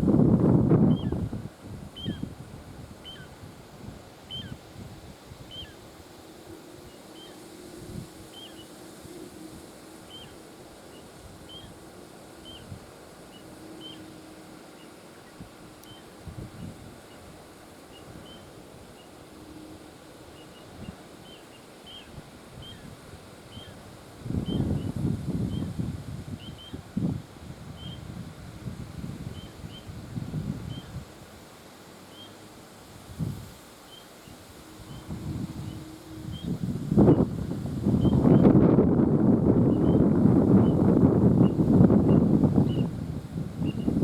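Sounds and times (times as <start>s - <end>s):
wind rumbling on microphone: 0.0s - 44.0s.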